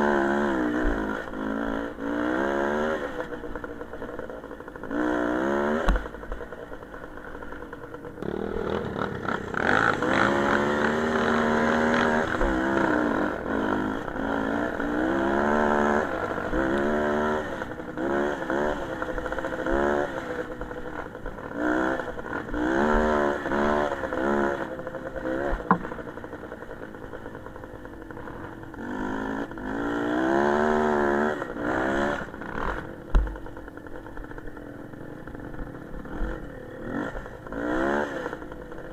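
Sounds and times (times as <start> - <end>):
small motorcycle engine revving: 0.0 - 38.9.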